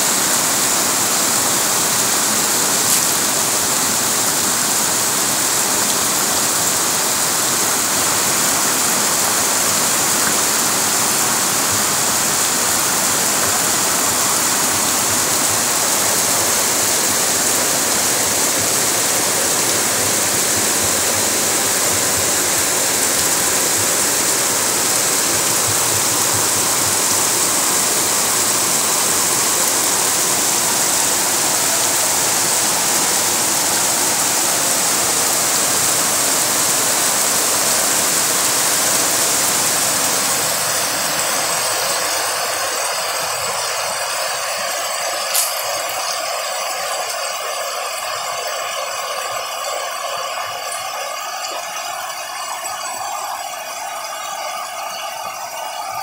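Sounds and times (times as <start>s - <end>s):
floodwater rushing: 0.0s - 56.0s
heavy rain falling: 0.0s - 56.0s.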